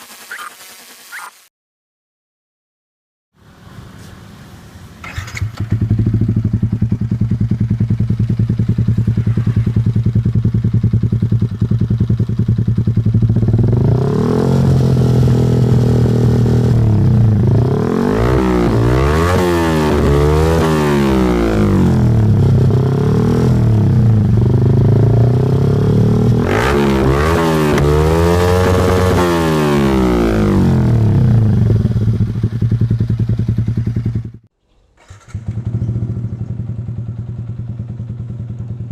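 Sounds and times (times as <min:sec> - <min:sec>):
motorcycle engine idling and revving: 0:03.4 - 0:38.9.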